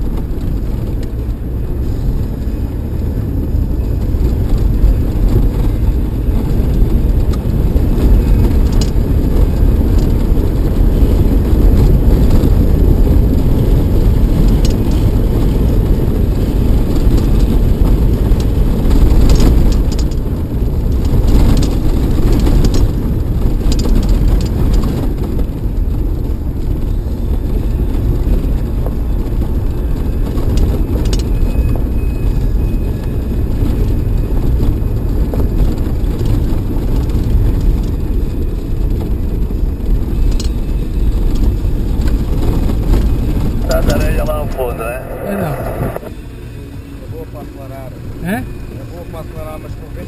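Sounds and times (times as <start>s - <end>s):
tyres and drivetrain rumble: 0.0s - 50.0s.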